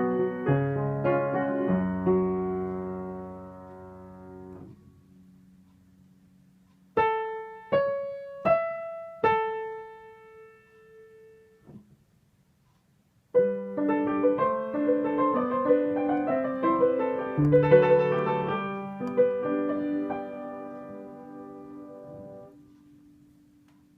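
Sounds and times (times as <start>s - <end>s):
piano melody: 0.0s - 5.6s, 6.9s - 11.8s, 13.3s - 23.9s.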